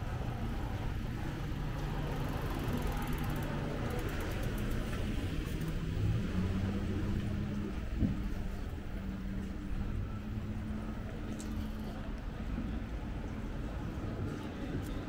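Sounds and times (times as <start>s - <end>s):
vehicle engine humming: 0.0s - 14.6s
street noise: 0.0s - 15.0s.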